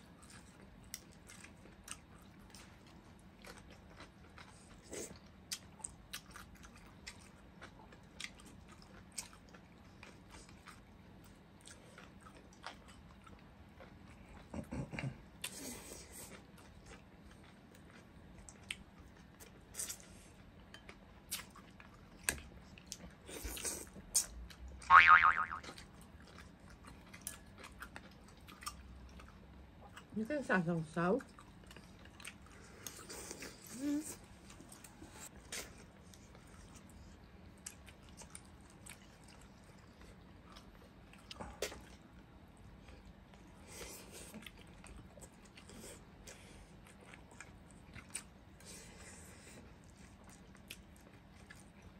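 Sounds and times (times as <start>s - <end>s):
wet chewing and lip-smacking: 0.0s - 14.7s, 15.4s - 24.8s, 25.4s - 30.2s, 31.2s - 51.9s.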